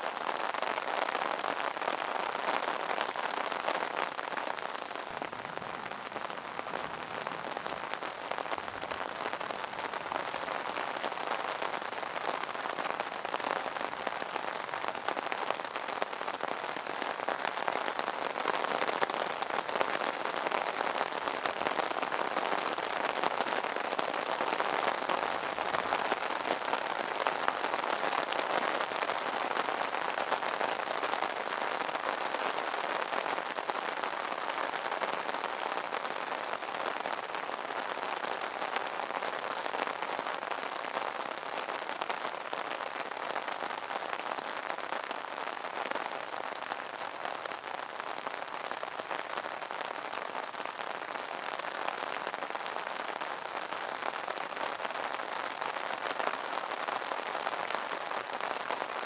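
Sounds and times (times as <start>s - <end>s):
rain pattering on umbrella: 0.0s - 59.0s.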